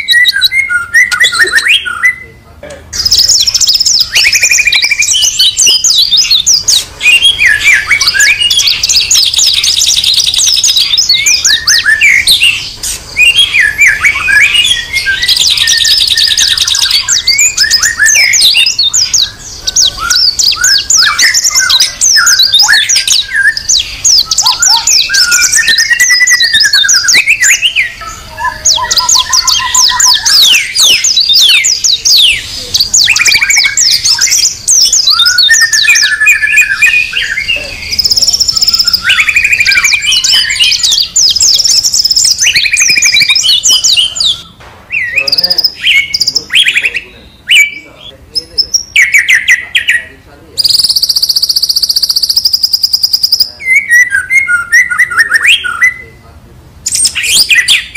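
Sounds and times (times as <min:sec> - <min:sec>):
songbird whistled song: 0:00.0 - 0:02.4, 0:03.0 - 0:57.9.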